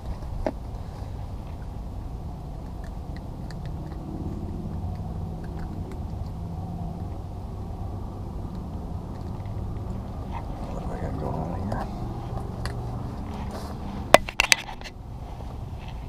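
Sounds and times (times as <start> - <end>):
faint engine-like hum: 0.0 - 16.0.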